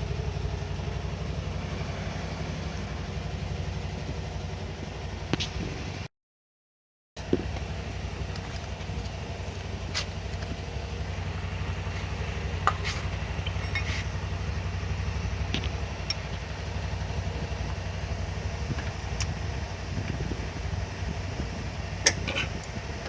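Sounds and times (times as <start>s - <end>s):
truck engine idling: 0.0s - 6.1s, 7.2s - 23.0s.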